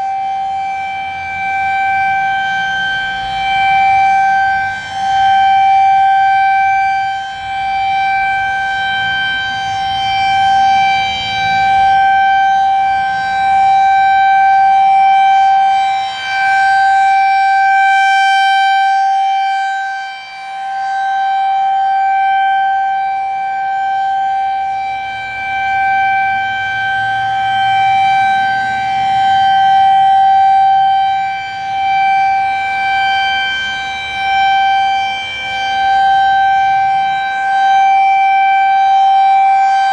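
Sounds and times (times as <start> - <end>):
rotating warning siren tone: 0.0 - 39.9.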